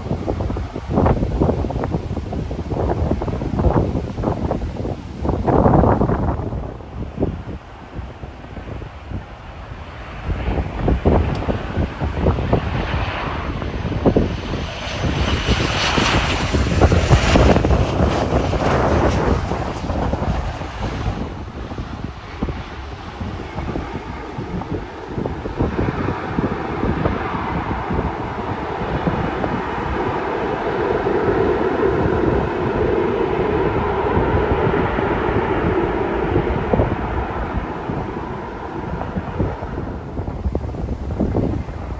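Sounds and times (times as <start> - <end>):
airliner engine noise: 0.0 - 41.9
wind gusting on microphone: 0.0 - 41.9.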